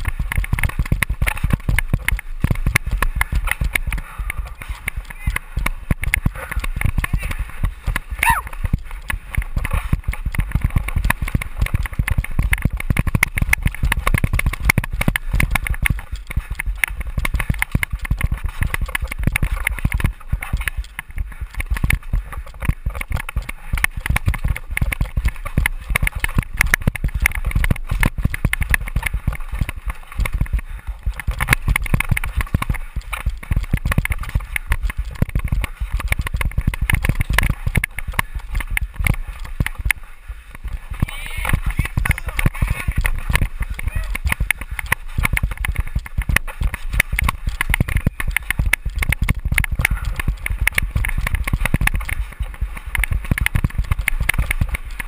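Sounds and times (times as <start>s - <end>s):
bike clattering over rough trail: 0.0s - 55.0s.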